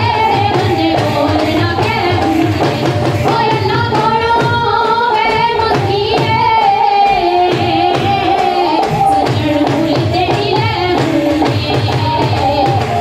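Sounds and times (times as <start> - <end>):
driving drum beat: 0.0 - 13.0.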